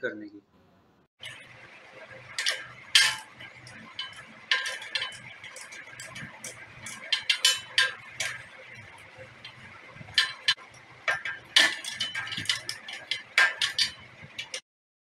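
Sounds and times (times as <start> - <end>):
metal clinks: 2.1 - 14.6.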